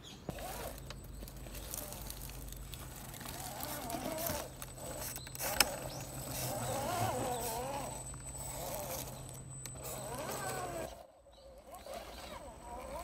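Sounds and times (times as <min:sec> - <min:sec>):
toy car electric motor whining: 0:00.3 - 0:13.0.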